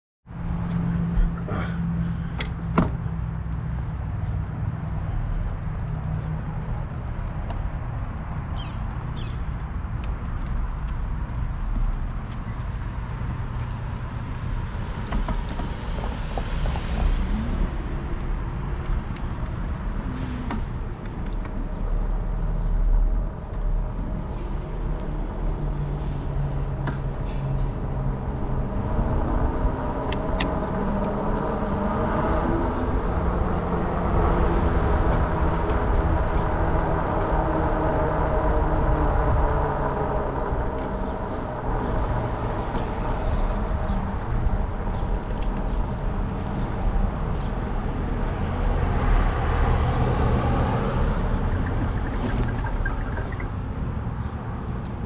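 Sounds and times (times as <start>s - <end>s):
electric bike rumble: 0.3s - 55.0s.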